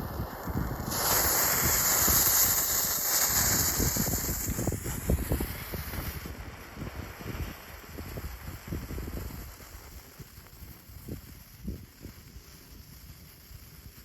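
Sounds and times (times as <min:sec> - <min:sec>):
firework crackles: 0:00.0 - 0:14.0
firework hissing: 0:00.0 - 0:14.0.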